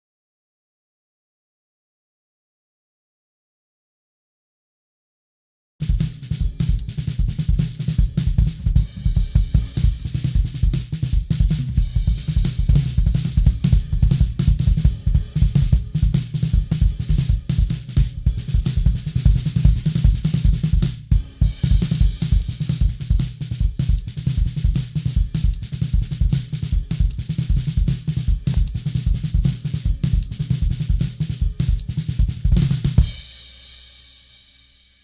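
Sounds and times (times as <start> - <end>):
drum kit playing fast groove: 5.8 - 34.5.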